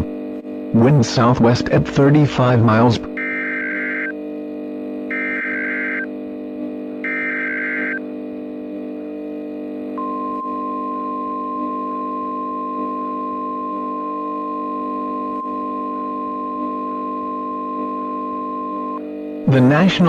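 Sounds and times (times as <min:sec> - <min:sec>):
steady warning alarm tone: 0:00.0 - 0:20.0.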